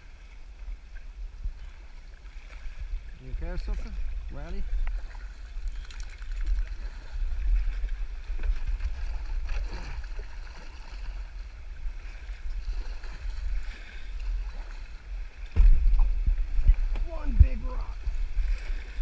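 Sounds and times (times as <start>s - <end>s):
small water splashes: 0.0s - 19.0s.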